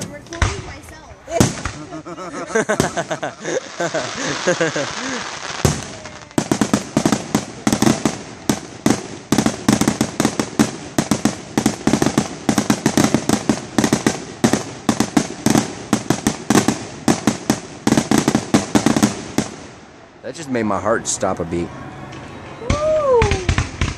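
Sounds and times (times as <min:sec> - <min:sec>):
aerial fireworks bangs: 0:00.0 - 0:02.0, 0:02.7 - 0:19.9, 0:22.2 - 0:23.9.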